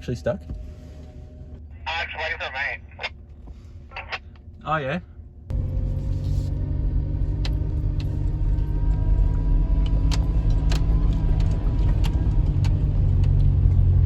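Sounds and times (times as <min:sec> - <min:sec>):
engine running with deep rumble: 0:00.0 - 0:14.0.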